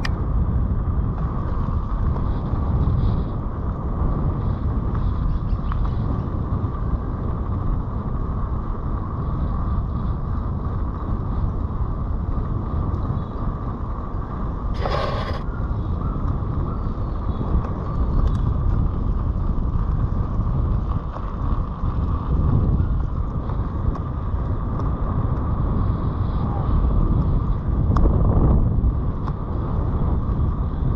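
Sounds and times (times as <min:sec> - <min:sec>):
bike tyres on gravel: 0:00.0 - 0:30.9
wind buffeting microphone: 0:00.0 - 0:30.9.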